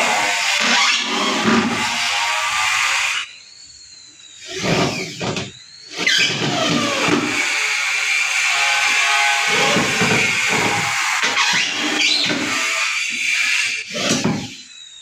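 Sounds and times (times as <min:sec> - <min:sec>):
electric drill whining: 0:00.0 - 0:15.0.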